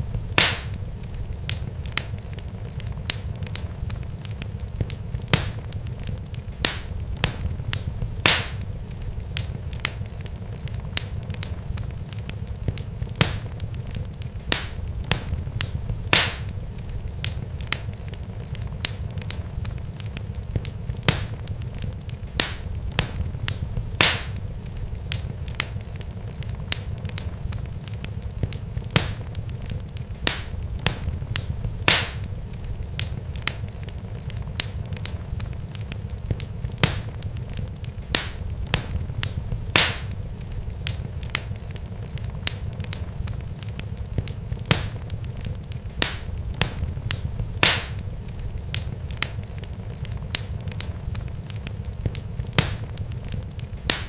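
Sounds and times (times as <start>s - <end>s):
sharp crackles and pops: 0.0s - 54.0s
steady low rumble: 0.0s - 54.0s.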